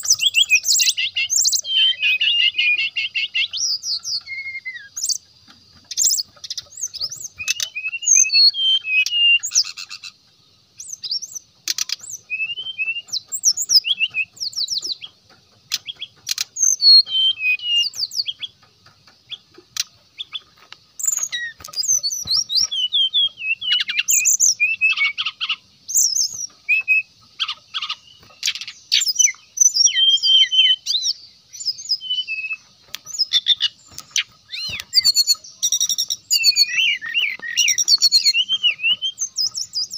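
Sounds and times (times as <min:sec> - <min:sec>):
bird singing whistled notes: 0:00.0 - 0:39.9
faint steady high hiss: 0:00.0 - 0:39.9.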